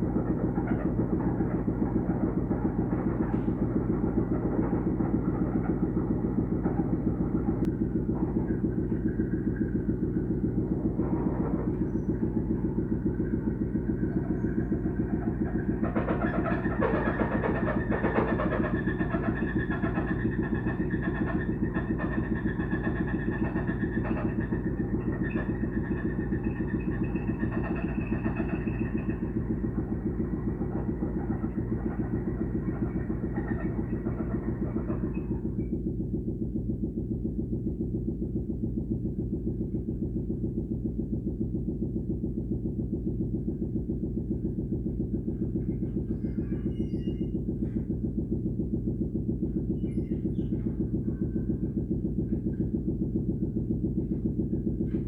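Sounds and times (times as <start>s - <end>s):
engine running with fast pulse: 0.0s - 55.0s.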